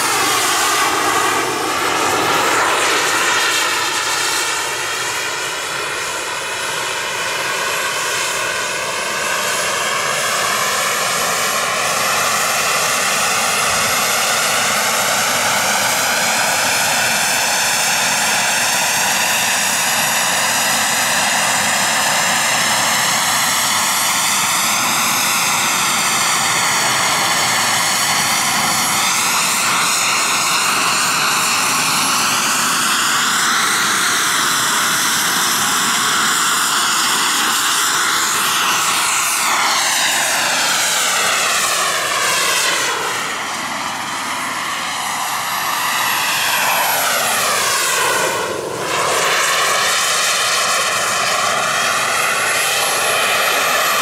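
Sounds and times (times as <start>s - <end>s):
jet turbine whine: 0.0s - 54.0s.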